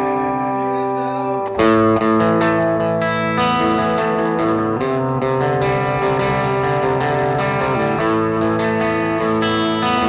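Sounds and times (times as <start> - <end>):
electric guitar ringing chords: 0.0 - 10.0.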